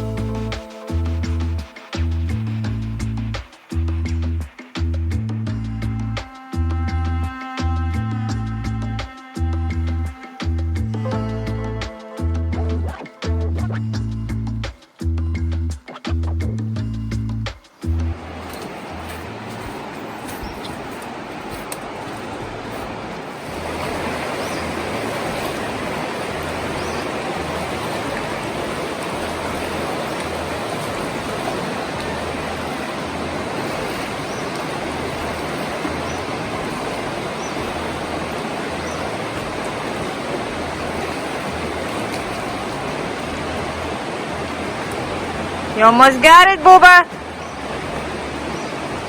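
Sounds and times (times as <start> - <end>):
river water rushing: 0.0 - 16.0, 17.5 - 49.0.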